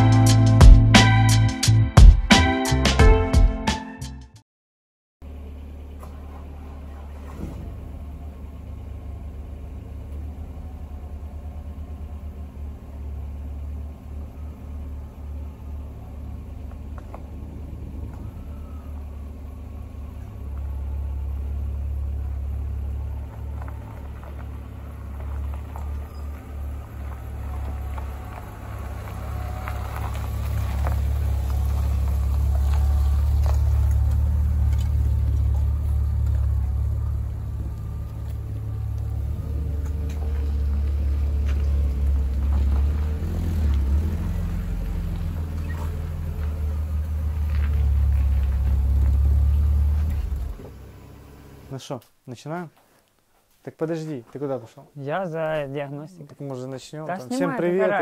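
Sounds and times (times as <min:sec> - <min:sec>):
car road rumble: 0:05.2 - 0:51.9.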